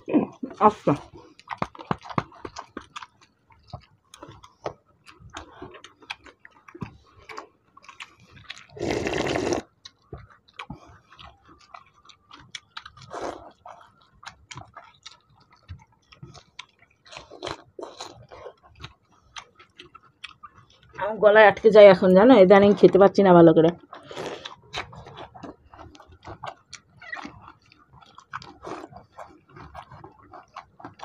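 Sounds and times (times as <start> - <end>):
chewing and lip-smacking: 0.3 - 21.1, 23.7 - 31.0.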